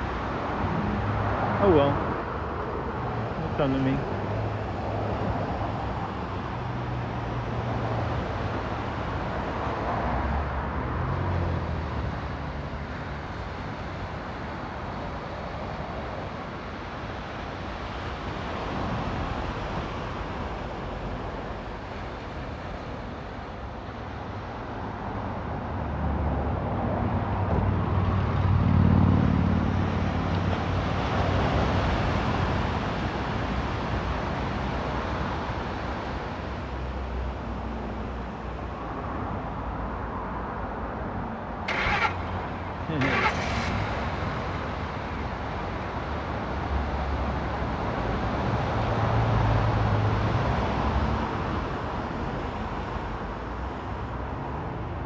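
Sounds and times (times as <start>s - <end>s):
continuous traffic noise: 0.0s - 55.0s
vehicles passing: 0.0s - 55.0s.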